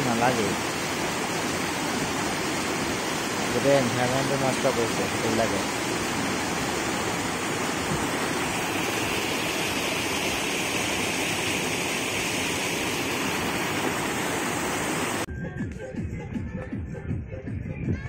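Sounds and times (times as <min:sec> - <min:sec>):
river water rushing over rocks: 0:00.0 - 0:15.3.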